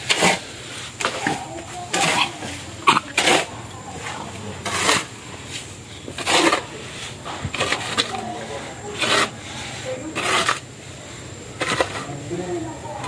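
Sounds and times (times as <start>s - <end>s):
shovel scraping wet cement: 0.0s - 13.0s.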